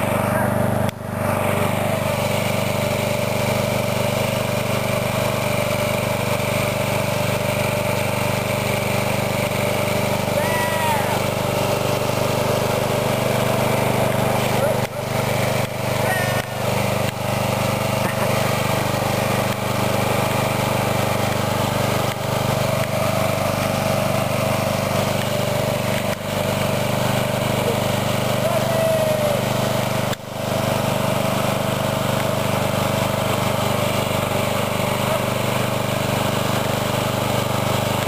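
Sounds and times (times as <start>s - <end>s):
riding lawnmower engine running: 0.0s - 38.0s.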